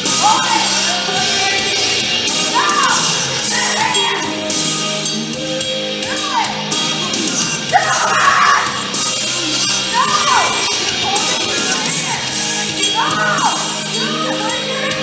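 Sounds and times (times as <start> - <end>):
vocal cries: 0.0 - 5.2, 6.2 - 15.0
rock music with vocals: 0.0 - 15.0.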